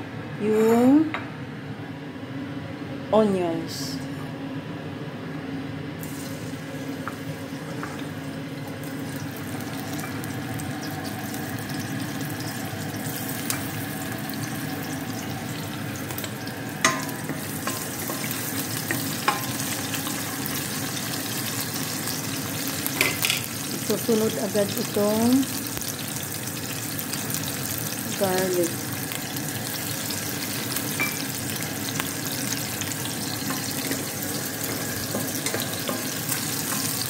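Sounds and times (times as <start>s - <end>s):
onions sizzling in oil: 6.0s - 37.0s.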